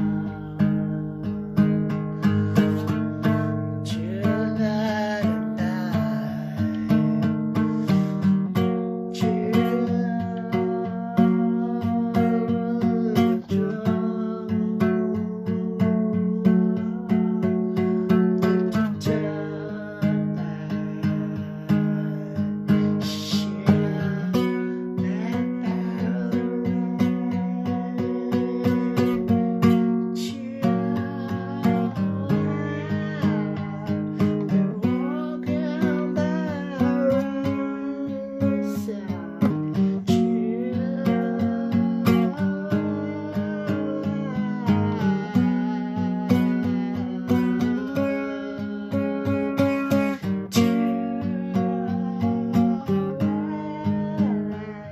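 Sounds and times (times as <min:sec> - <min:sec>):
acoustic guitar chords: 0:00.0 - 0:54.9.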